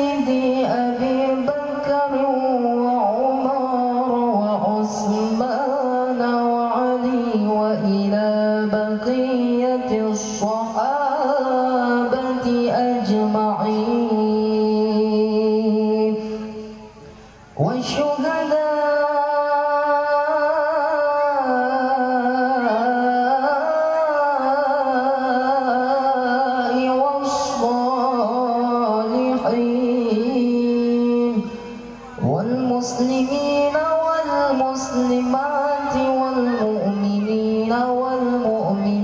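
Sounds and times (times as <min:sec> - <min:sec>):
person singing slow ornamented melody: 0:00.0 - 0:39.0.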